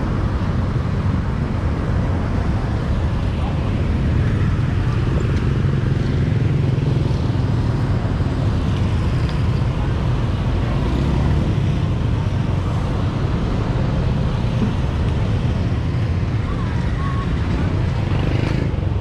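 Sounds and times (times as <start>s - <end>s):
busy street market noise: 0.0s - 19.0s
traffic rumble: 0.0s - 19.0s.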